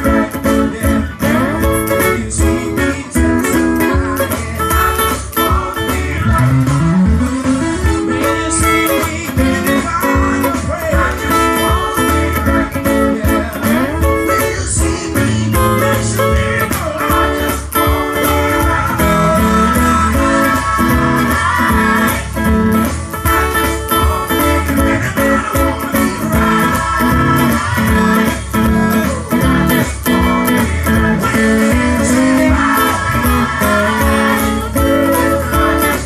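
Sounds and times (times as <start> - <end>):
band with bass line: 0.0 - 36.0
electric guitar playing: 0.0 - 36.0.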